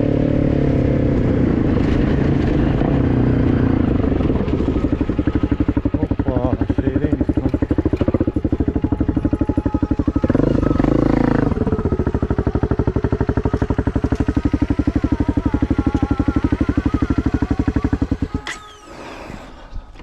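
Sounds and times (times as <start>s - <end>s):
engine running with fast pulse: 0.0s - 20.0s.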